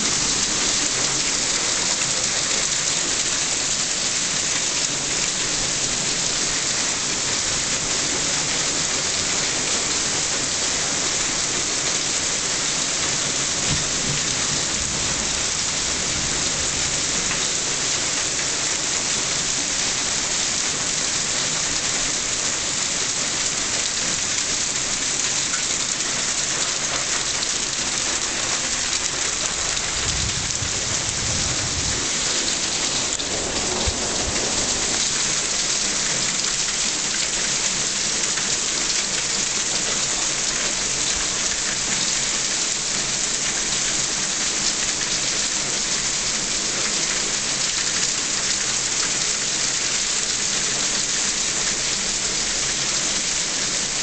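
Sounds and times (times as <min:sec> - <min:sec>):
hail and rain pelting down: 0:00.0 - 0:54.0.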